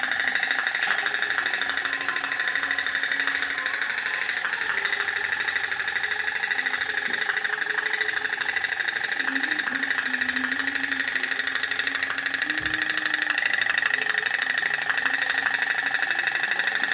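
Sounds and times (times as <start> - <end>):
toy boat putt-putting: 0.0 - 16.9.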